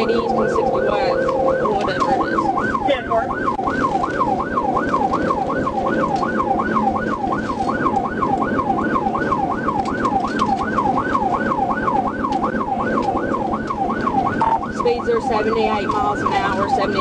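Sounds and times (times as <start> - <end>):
police siren yelping: 0.0 - 17.0
road and engine noise: 0.0 - 17.0.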